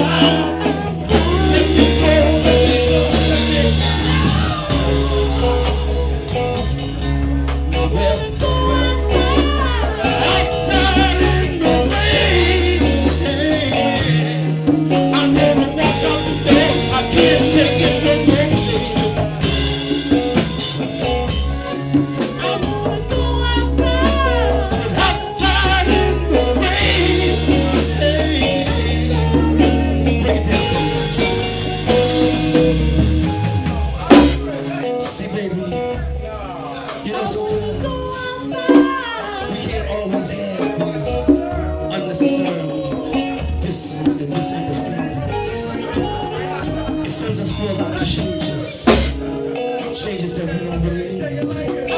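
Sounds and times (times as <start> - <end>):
live band playing: 0.0 - 51.9.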